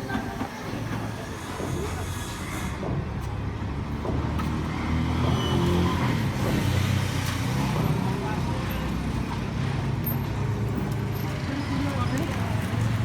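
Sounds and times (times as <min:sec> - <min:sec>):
large vehicle engine rumbling: 0:00.0 - 0:13.0
traffic hum: 0:00.0 - 0:13.0.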